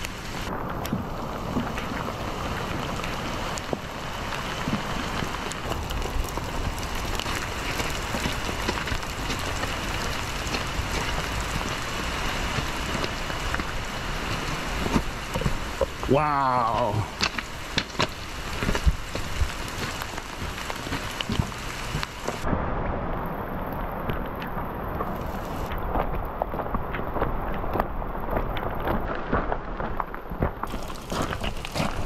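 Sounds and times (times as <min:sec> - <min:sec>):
steady rain in forest: 0:00.0 - 0:32.0.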